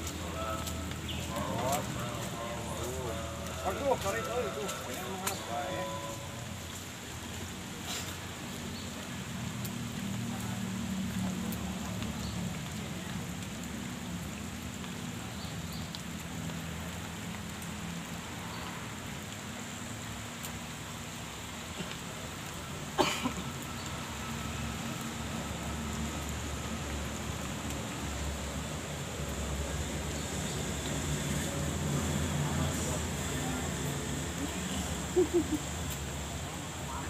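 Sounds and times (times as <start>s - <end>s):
outdoor hiss: 0.0s - 37.0s.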